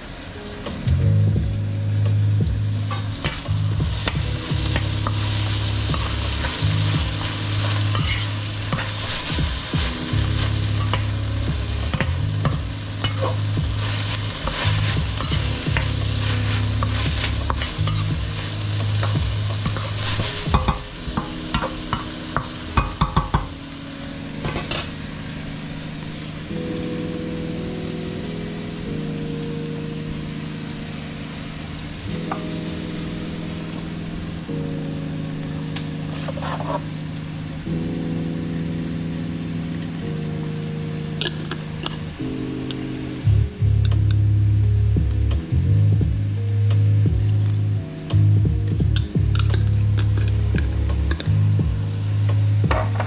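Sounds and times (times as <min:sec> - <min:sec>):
food sizzling in a frying pan: 0:00.0 - 0:45.0, 0:47.0 - 0:53.0.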